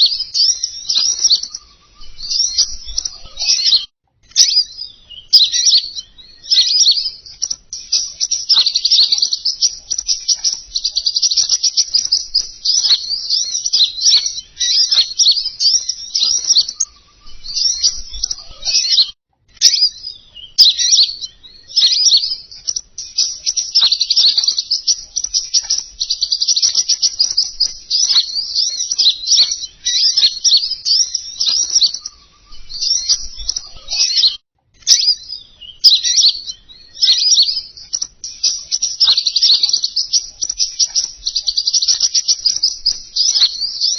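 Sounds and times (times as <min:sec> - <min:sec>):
songbird chattering trill: 0:00.0 - 0:43.9.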